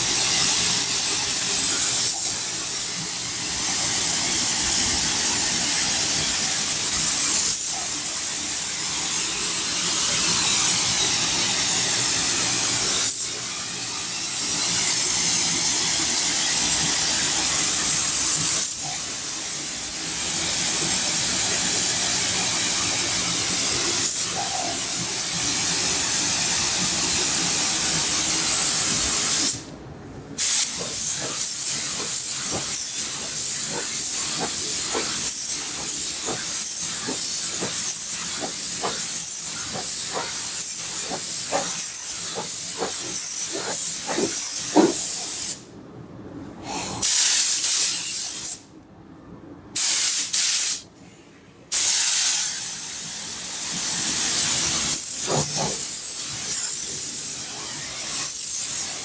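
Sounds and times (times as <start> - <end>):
paint spray gun hissing: 0.0 - 29.7, 30.4 - 45.6, 47.0 - 48.6, 49.8 - 50.8, 51.7 - 59.0.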